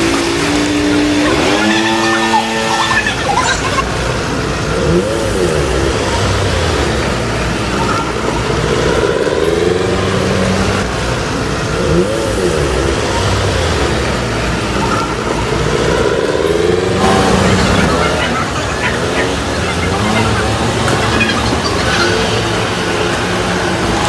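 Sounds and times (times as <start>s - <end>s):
engine rising and falling in pitch: 0.0s - 24.0s
steady rushing noise: 0.0s - 24.0s
vehicles passing on street: 0.0s - 24.0s.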